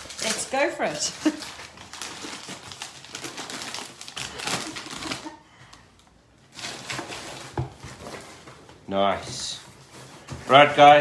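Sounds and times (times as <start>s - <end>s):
plastic packaging clicks and rustling: 0.0s - 8.8s, 9.6s - 11.0s.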